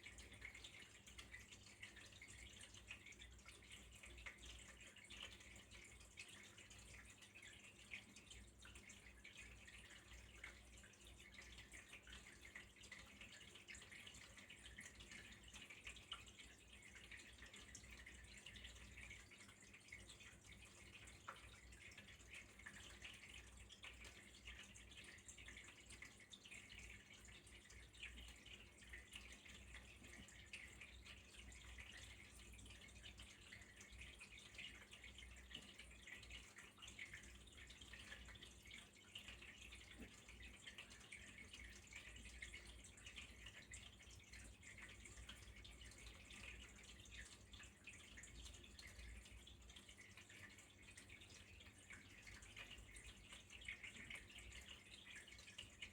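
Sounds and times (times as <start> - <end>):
water trickling and dripping: 0.0 - 55.9.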